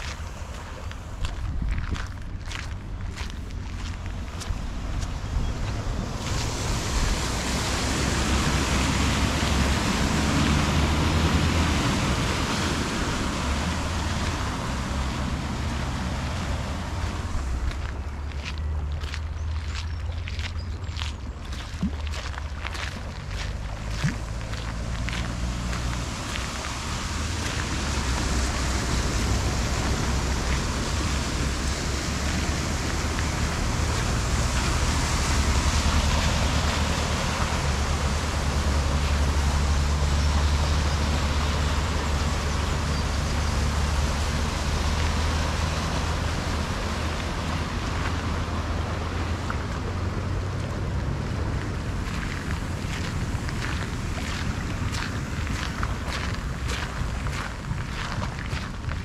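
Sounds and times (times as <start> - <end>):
wind rumble on microphone: 0.0 - 59.0
tyres hissing through water spray: 5.8 - 18.1, 21.9 - 57.4.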